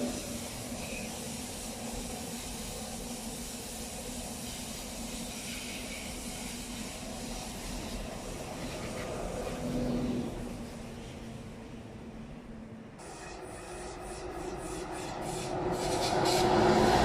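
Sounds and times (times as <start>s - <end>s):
train hissing: 0.0s - 11.6s, 13.0s - 17.0s.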